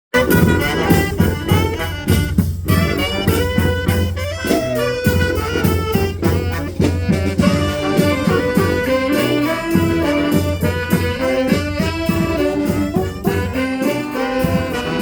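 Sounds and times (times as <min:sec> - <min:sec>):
horns playing melody: 0:00.1 - 0:15.0
steady drum beat: 0:00.1 - 0:15.0.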